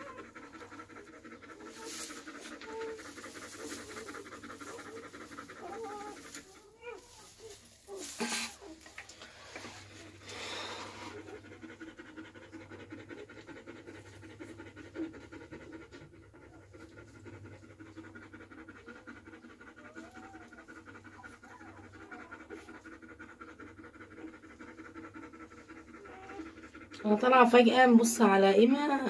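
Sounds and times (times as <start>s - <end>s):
dog panting quickly: 0.0s - 29.0s.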